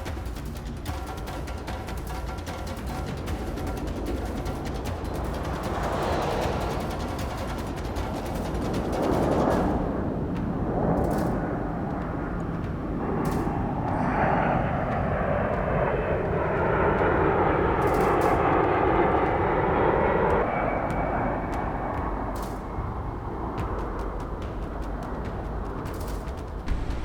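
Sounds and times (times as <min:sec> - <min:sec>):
steady tones: 0:00.0 - 0:27.0
large aircraft flying past: 0:02.6 - 0:27.0.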